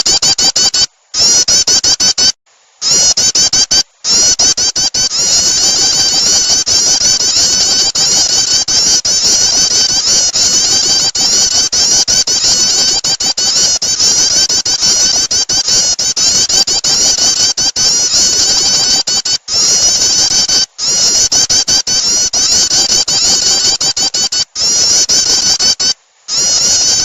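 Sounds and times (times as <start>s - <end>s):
bird call rapid chirping: 0.0s - 27.0s.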